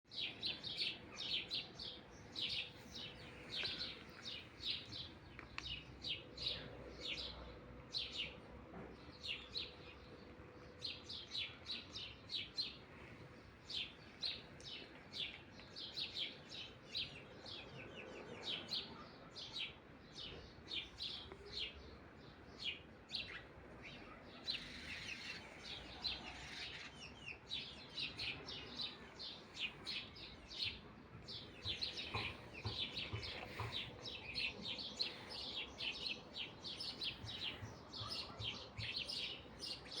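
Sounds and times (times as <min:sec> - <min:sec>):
small birds chirping: 0:00.1 - 0:40.0.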